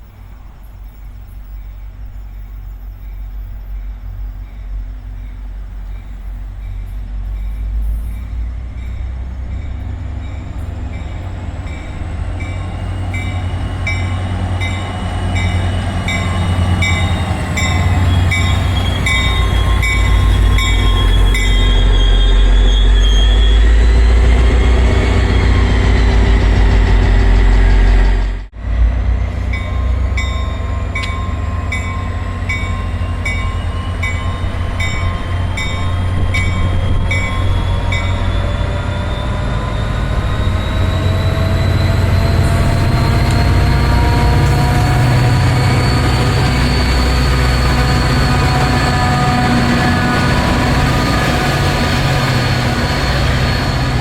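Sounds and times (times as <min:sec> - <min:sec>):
train wheel squeal: 0:00.0 - 0:28.5, 0:29.1 - 0:54.0
train rumbling past: 0:00.0 - 0:54.0.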